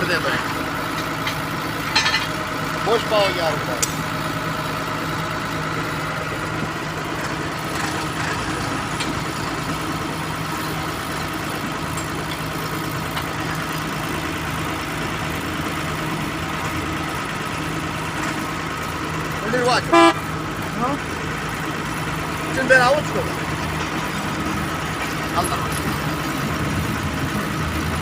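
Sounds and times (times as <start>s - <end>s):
heavy machinery engine idling: 0.0s - 28.0s.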